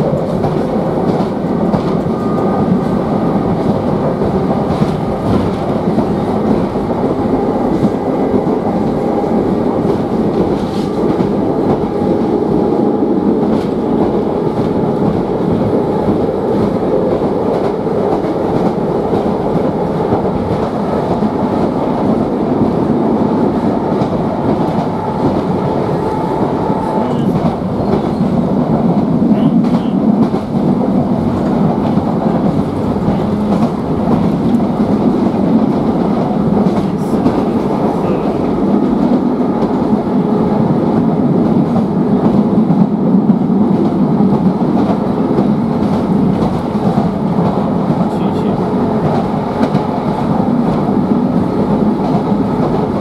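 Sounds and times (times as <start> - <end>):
train wheels running on rails: 0.0 - 53.0.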